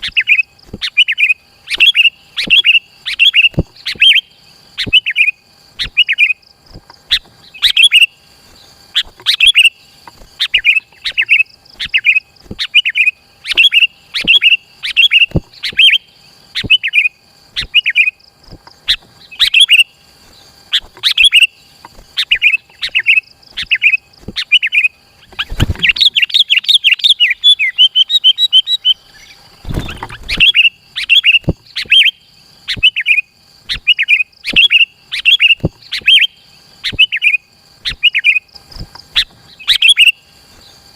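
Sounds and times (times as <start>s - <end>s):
bird singing short phrases: 0.0s - 18.2s, 18.8s - 40.8s
bird chattering: 0.0s - 40.2s.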